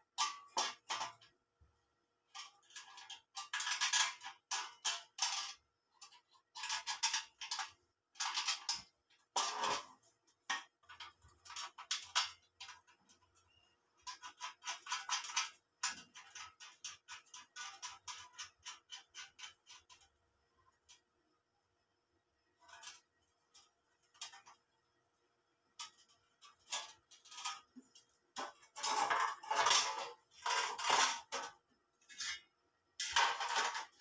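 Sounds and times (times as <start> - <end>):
sheet metal clicks and rattles: 0.1 - 1.4, 2.3 - 21.1, 22.6 - 24.8, 25.7 - 34.0.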